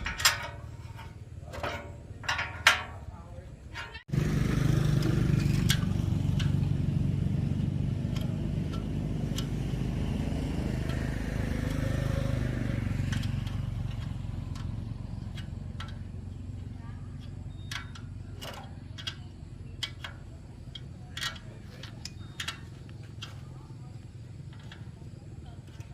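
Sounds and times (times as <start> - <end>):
small engine running: 4.1 - 25.9.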